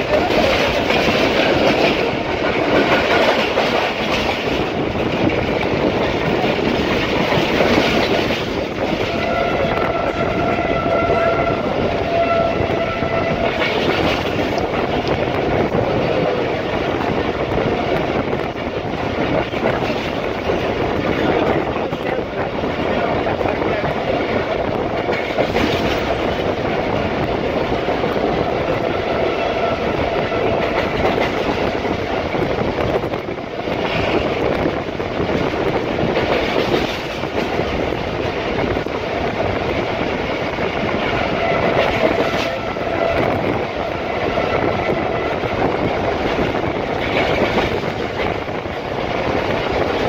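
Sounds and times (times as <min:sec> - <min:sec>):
train coach rumbling on rails: 0:00.0 - 0:50.0.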